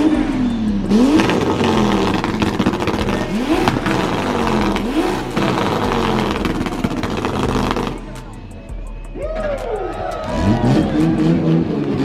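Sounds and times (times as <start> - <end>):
car engine revving: 0.0 - 8.5, 10.3 - 12.0.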